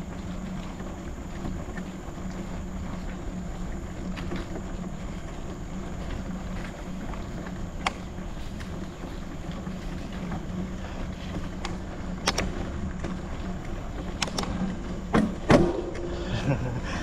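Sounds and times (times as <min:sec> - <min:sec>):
bike knocks and rattles: 0:00.0 - 0:16.6
bike tyres rumbling: 0:00.0 - 0:17.0.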